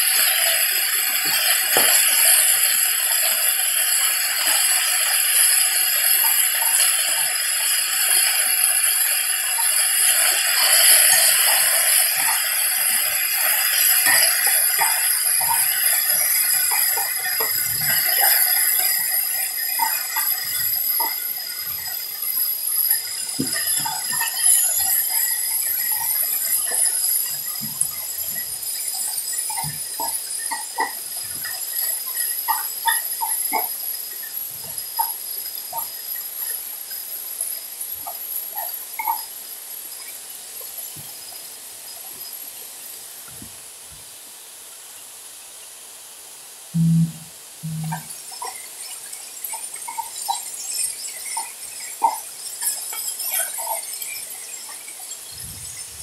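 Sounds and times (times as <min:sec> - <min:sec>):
meat sizzling on a griddle: 0:00.0 - 0:46.7, 0:47.6 - 0:56.0.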